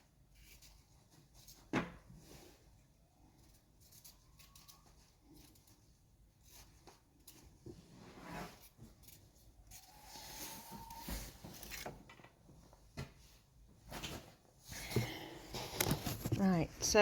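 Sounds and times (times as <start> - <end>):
faint clicks and rustles: 0.2 - 16.7.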